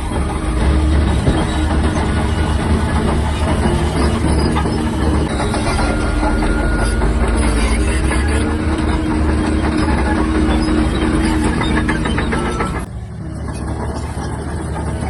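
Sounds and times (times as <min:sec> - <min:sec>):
bulldozer diesel engine under load: 0:00.0 - 0:15.0
steel tracks clanking: 0:00.0 - 0:15.0.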